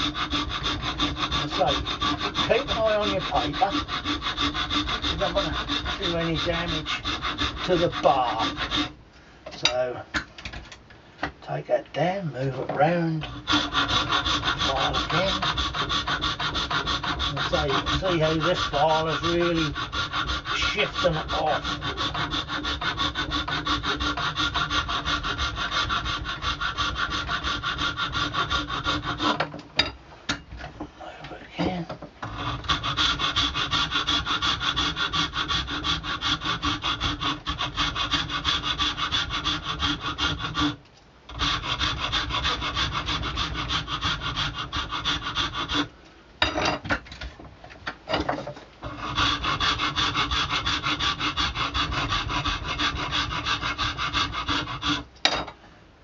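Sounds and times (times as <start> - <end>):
hand file rasping: 0.0 - 9.0, 12.5 - 30.0, 31.6 - 46.8, 48.1 - 55.5.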